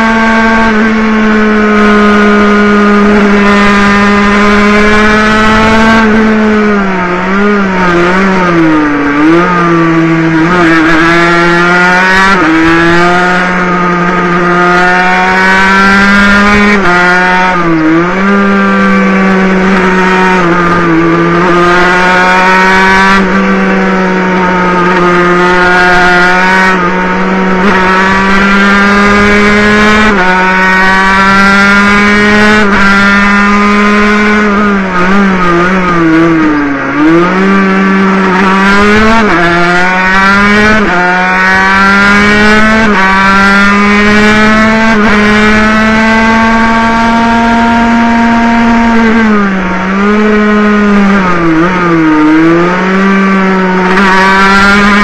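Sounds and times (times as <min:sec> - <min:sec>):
two-stroke motorcycle engine wailing: 0:00.0 - 0:55.0.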